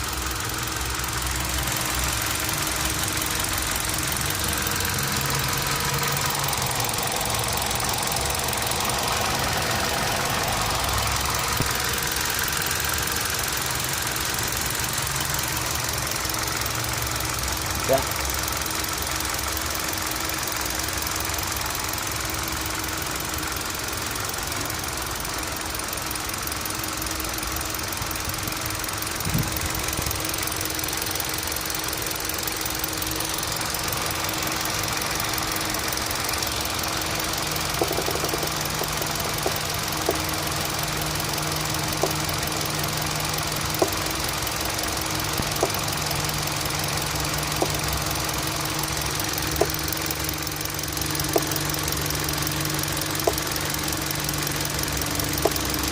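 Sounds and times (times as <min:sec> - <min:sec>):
engine knocking: 0:00.0 - 0:55.9.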